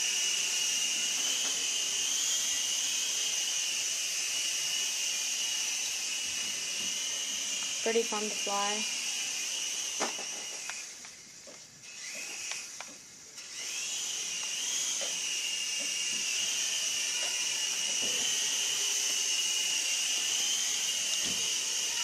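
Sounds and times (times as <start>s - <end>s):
toy helicopter rotors whining: 0.0s - 22.0s.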